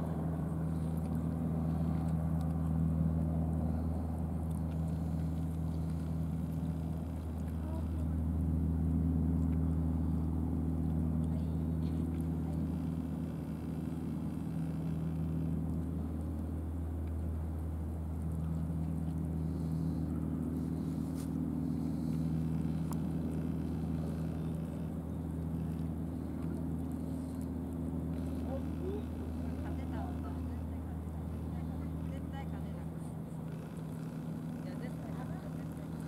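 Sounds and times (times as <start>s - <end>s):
engine droning hum: 0.0s - 36.0s.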